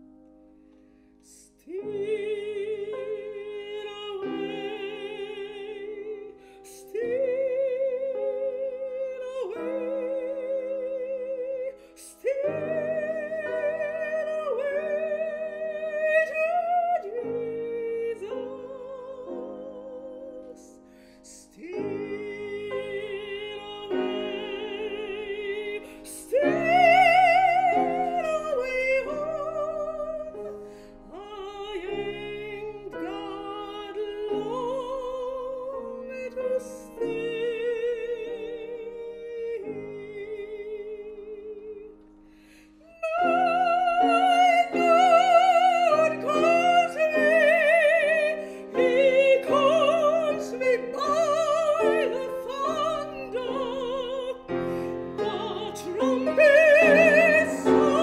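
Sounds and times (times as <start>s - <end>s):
piano accompaniment: 0.0s - 58.0s
woman singing operatic style: 1.2s - 42.0s, 42.8s - 58.0s.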